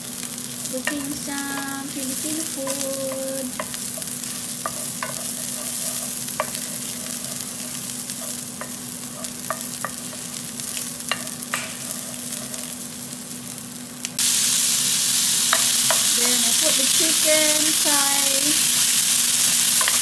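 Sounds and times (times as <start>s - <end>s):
garlic sizzling in oil: 0.0s - 20.0s.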